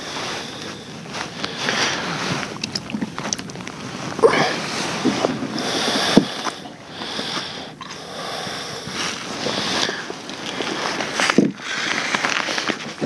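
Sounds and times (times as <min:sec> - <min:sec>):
rustling and scraping handling noise: 0:00.0 - 0:08.0, 0:08.9 - 0:13.0.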